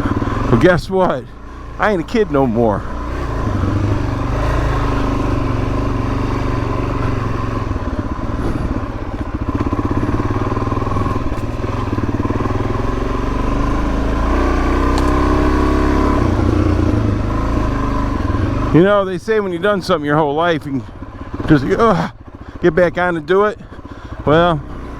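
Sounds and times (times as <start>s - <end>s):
dirt bike engine running: 0.0s - 24.9s.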